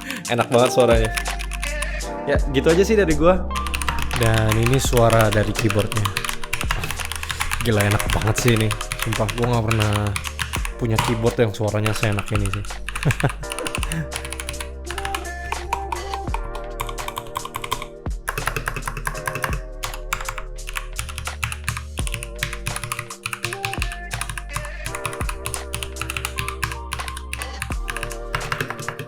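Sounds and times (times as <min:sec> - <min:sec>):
mechanical keyboard typing: 0:00.0 - 0:01.9, 0:03.6 - 0:29.0
background music with bass: 0:00.0 - 0:29.0.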